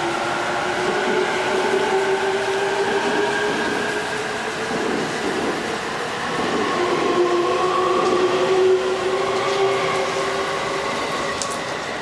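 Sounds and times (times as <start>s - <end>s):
steady train whine: 0.0s - 12.0s
train wheel and rail noise: 0.0s - 12.0s.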